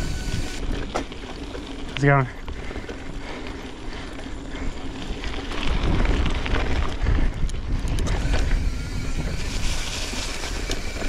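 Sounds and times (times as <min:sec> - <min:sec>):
bike rattles and clicks: 0:00.0 - 0:11.0
bike tyres rumbling on dirt: 0:00.0 - 0:11.0
wind buffeting microphone: 0:00.0 - 0:11.0.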